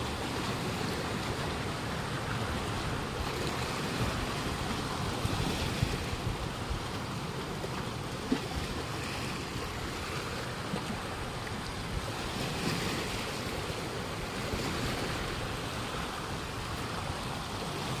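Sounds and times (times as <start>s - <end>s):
small waves lapping: 0.0s - 18.0s
wind buffeting microphone: 0.0s - 18.0s.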